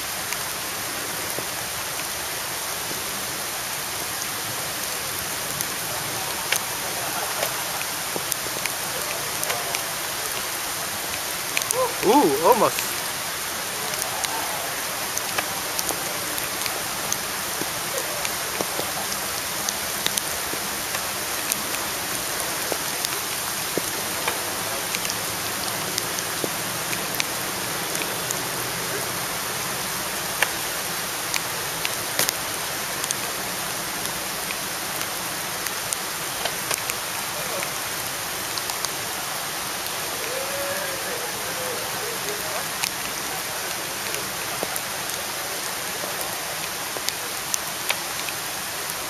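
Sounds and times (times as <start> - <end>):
heavy rain pouring: 0.0 - 49.0.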